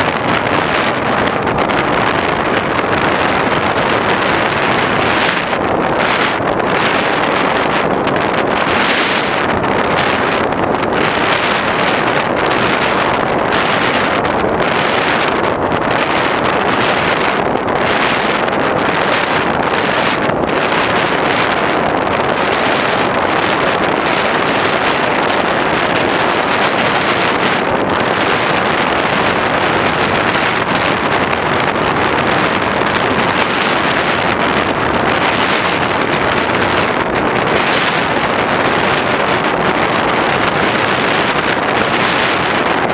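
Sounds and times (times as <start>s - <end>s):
loud rush of wind: 0.0s - 42.9s.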